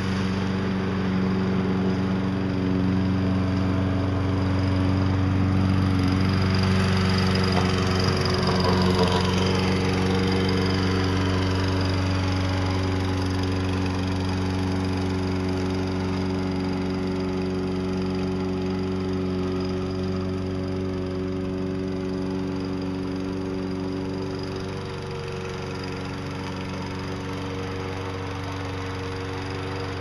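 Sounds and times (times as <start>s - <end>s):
lawn mower engine running: 0.0s - 30.0s.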